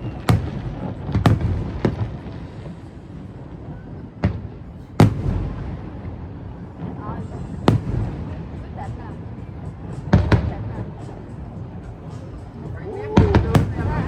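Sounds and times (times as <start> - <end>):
fireworks bangs: 0.0 - 11.1, 13.2 - 14.0
distant fireworks rumble: 0.0 - 14.0.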